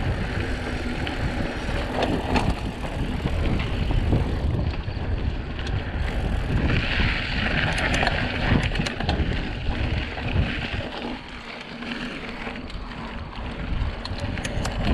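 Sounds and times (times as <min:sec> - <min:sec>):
wind buffeting microphone: 0:00.0 - 0:11.5, 0:12.3 - 0:14.9.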